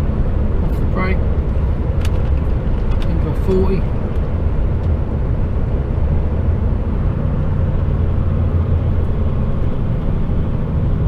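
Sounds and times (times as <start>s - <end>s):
lorry engine and road noise: 0.0s - 11.0s.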